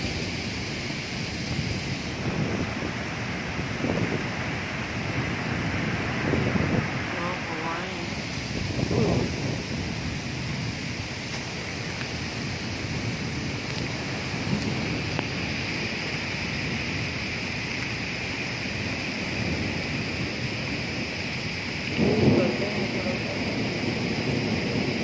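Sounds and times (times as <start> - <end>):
heavy rain rushing: 0.0 - 25.0
wind rumbling on microphone: 0.0 - 25.0.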